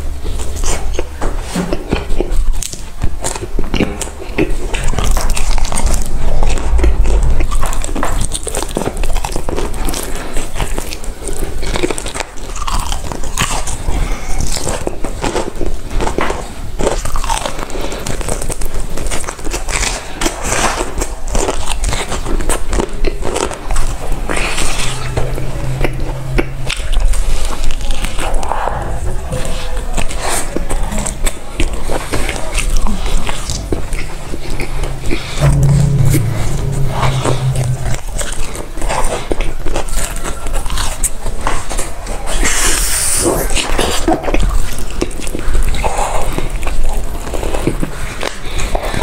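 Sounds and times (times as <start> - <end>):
crunchy chewing of fried food: 0.0 - 35.3, 39.9 - 49.0.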